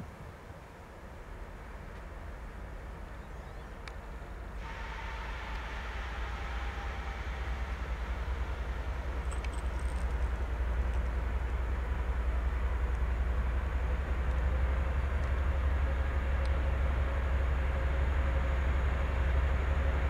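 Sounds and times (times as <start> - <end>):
diesel locomotive engine rumbling: 0.0 - 20.0
train running on rails: 0.0 - 20.0.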